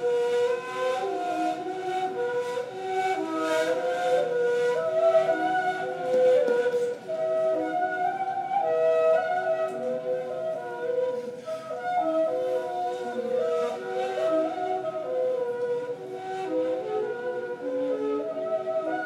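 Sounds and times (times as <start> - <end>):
cane flute duet: 0.0 - 19.0.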